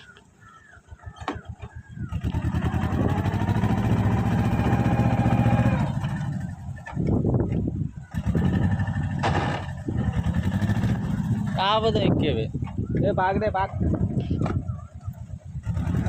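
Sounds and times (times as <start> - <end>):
tractor diesel engine: 0.0 - 16.0.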